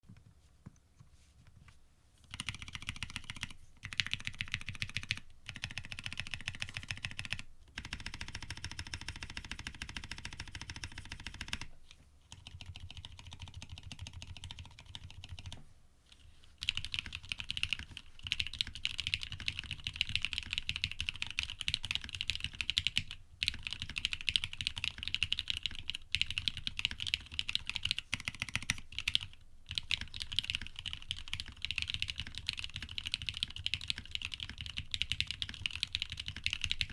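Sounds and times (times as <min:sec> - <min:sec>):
mechanical keyboard typing: 0:02.2 - 0:11.7, 0:12.3 - 0:15.6, 0:16.6 - 0:36.9.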